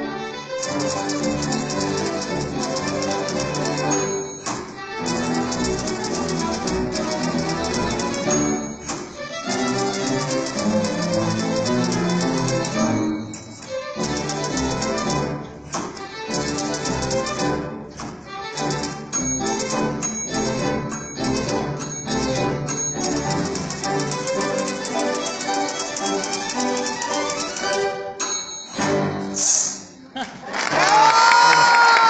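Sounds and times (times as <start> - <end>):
rapid fine clicking: 0.6 - 13.0, 14.0 - 27.8.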